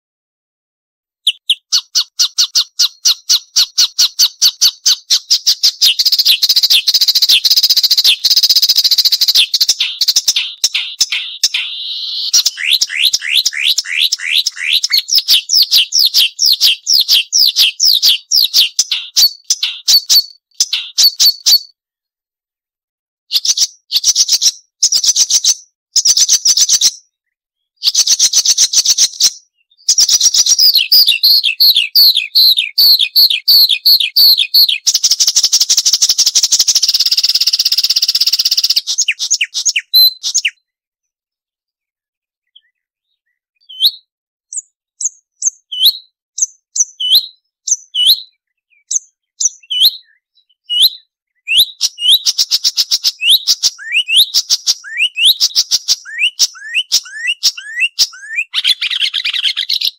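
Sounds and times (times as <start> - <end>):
warbler chattering song: 1.3 - 21.7, 23.4 - 40.7, 42.4 - 59.9.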